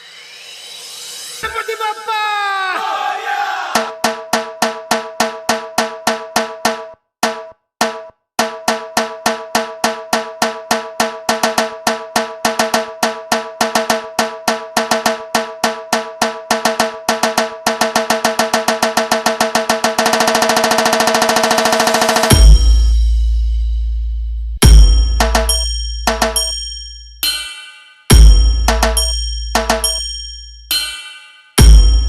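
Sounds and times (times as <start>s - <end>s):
electronic drum beat: 3.7s - 23.5s, 24.6s - 32.0s.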